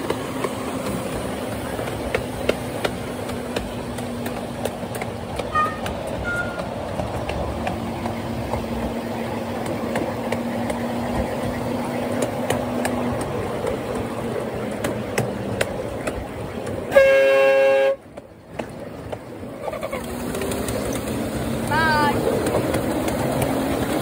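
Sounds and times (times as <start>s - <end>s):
miniature steam train running: 0.0s - 24.0s
wheels clicking over rail joints: 0.0s - 24.0s.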